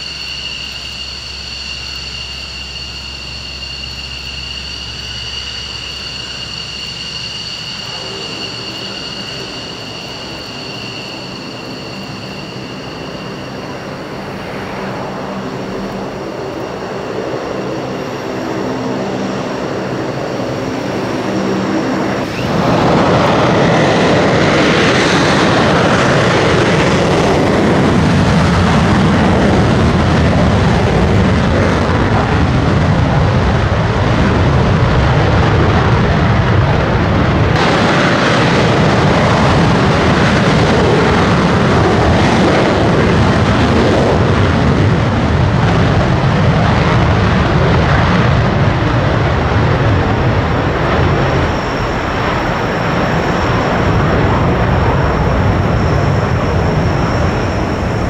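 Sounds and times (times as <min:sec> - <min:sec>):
jet afterburner roar: 0:00.0 - 0:58.0
jet engines whining: 0:00.0 - 0:58.0.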